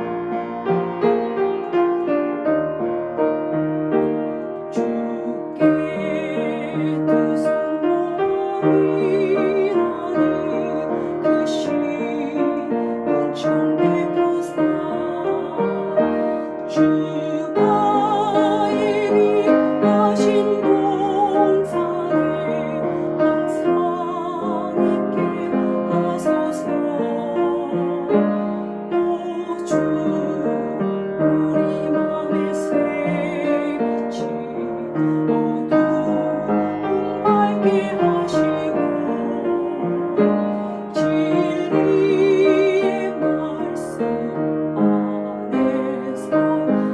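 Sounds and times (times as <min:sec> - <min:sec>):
piano accompaniment: 0:00.0 - 0:46.9
woman singing a hymn: 0:04.7 - 0:46.9.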